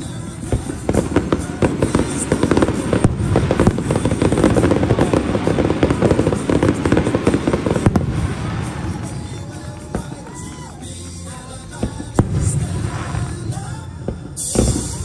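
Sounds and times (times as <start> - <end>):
background music: 0.0 - 15.0
fireworks bangs: 0.0 - 15.0
fireworks crackling and popping: 0.0 - 15.0.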